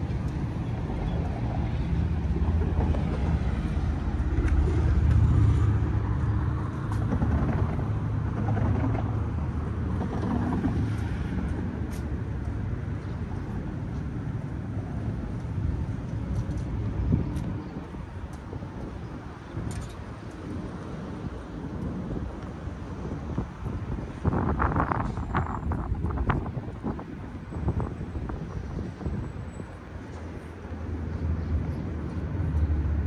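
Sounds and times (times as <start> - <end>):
passing vehicles rumbling: 0.0 - 33.0.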